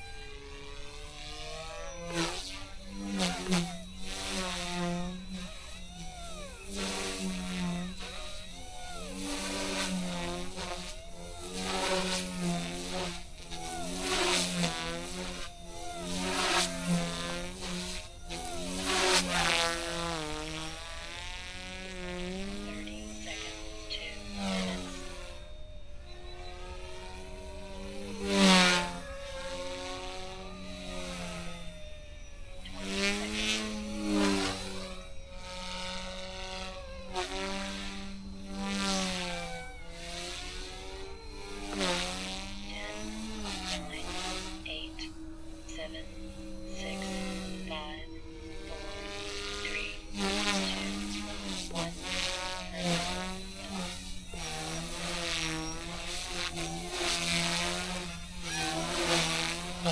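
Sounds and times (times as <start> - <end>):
rc helicopter buzzing whine: 0.0 - 59.9.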